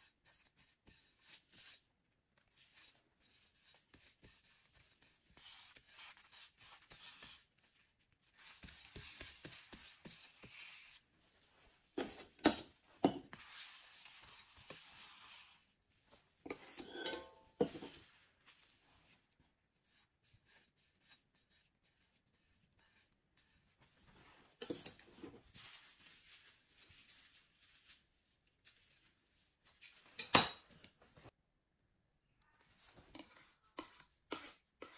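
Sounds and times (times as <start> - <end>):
spatula scraping frosting: 0.0 - 29.0, 32.6 - 34.9.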